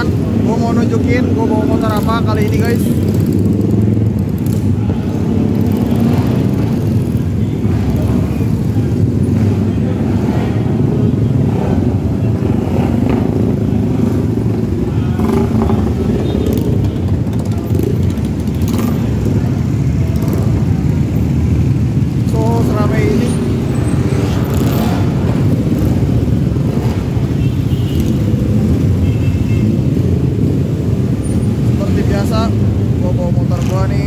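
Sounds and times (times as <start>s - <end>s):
motorcycle engines rumbling: 0.0s - 34.0s.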